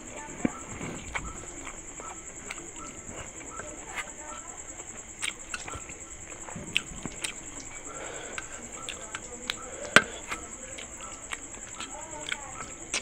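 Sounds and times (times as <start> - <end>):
fingers mixing food on metal plate: 0.0 - 13.0
insects chirring: 0.0 - 13.0
mouth smacks: 0.0 - 13.0.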